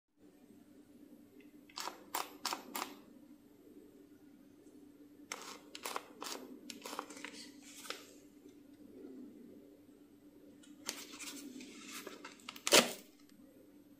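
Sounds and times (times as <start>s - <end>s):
steady low hum: 0.2s - 13.9s.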